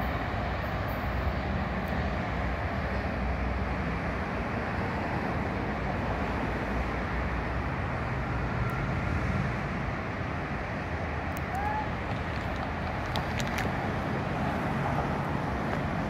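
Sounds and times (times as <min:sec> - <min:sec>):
distant train drone: 0:00.0 - 0:16.0
road traffic rumble: 0:00.0 - 0:16.0.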